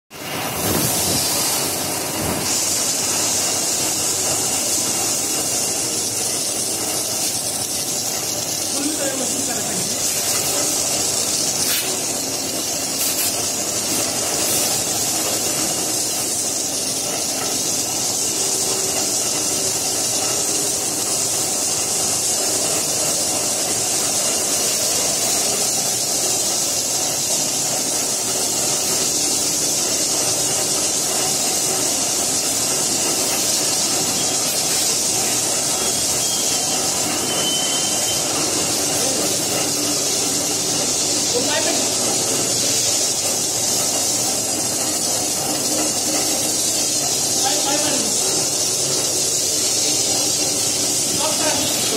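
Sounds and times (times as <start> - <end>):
spray lance hissing: 0.2 - 51.9.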